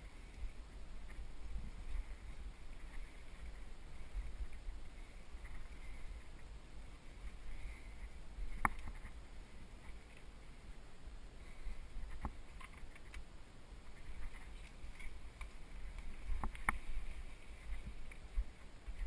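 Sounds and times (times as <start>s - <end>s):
wind and ground rumble: 0.0s - 19.0s.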